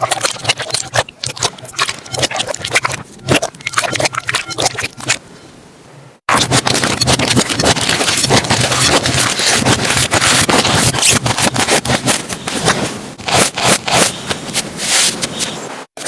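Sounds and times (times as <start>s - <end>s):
slime squelching and crackling: 0.0s - 5.2s, 6.3s - 14.2s.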